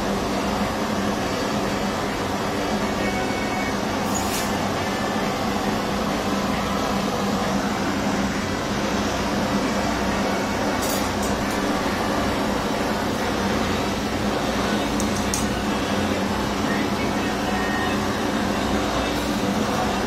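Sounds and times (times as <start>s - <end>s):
gas torch flame rushing: 3.7s - 20.0s.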